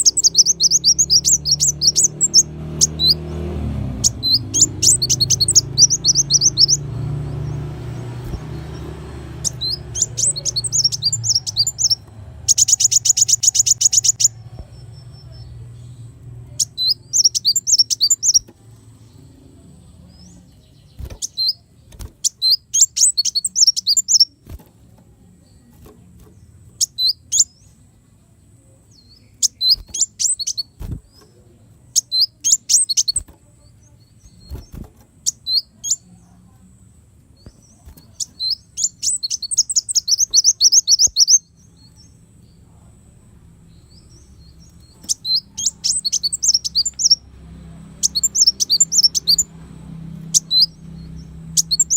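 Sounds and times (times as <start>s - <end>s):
sunbird high rapid chirps: 0.0s - 24.6s, 25.2s - 28.0s, 28.6s - 51.9s.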